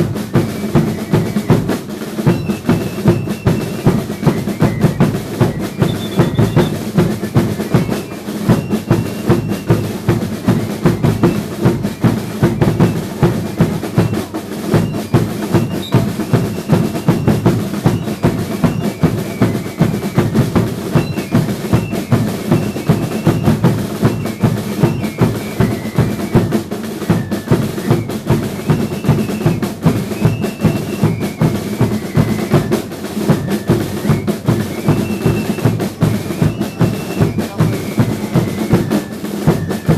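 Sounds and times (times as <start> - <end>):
rolling snare drumming: 0.0 - 39.9.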